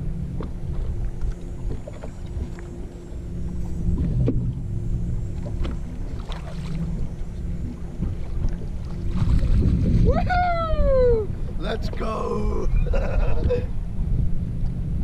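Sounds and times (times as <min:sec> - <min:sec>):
water lapping against boat hull: 0:00.0 - 0:14.9
faint steady hum: 0:00.0 - 0:15.0
wind on microphone: 0:00.0 - 0:15.0.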